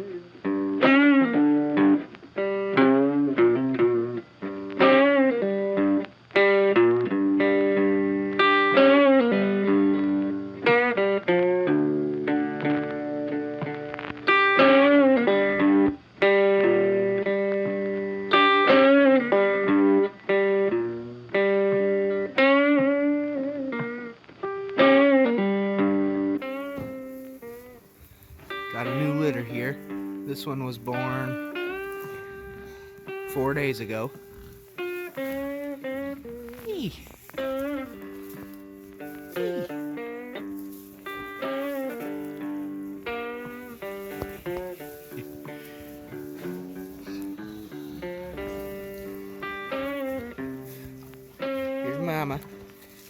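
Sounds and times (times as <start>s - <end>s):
electric guitar melody: 0.0s - 53.0s.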